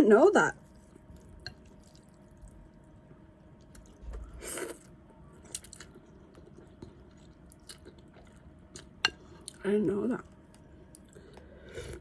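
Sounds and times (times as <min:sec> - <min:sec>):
person chewing noodle soup: 0:00.7 - 0:03.0, 0:03.6 - 0:09.6, 0:10.4 - 0:12.0.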